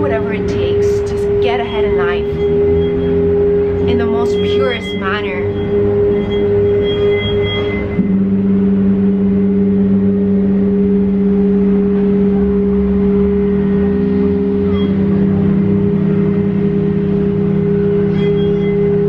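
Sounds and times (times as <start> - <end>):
lower singing bowl tone: 0.0 - 19.0
singing bowls humming drone: 0.0 - 19.0.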